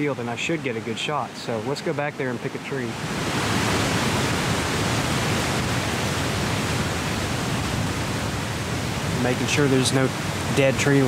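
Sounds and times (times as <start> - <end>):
wind blowing through trees: 0.0 - 11.0.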